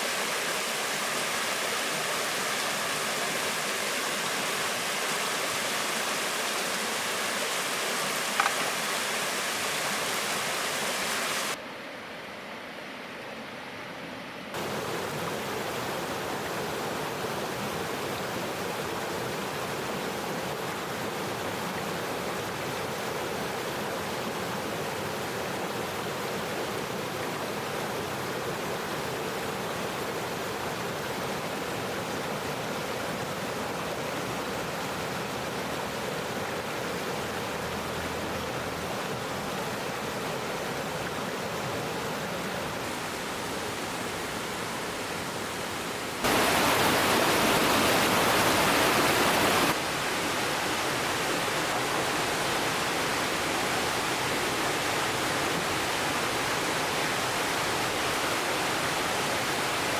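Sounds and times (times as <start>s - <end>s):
river water rushing: 0.0s - 11.6s, 14.6s - 59.9s.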